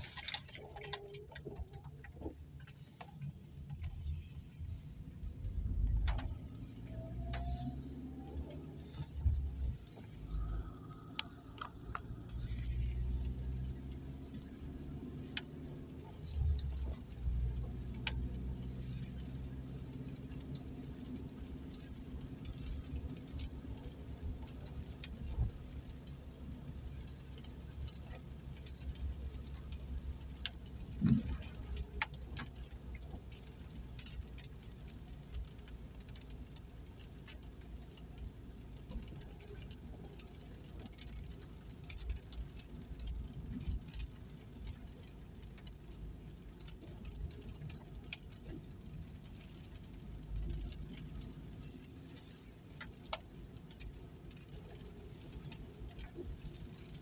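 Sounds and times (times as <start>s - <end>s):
car engine and tyre hum: 0.0s - 57.0s
raindrops tapping on windscreen: 0.0s - 57.0s.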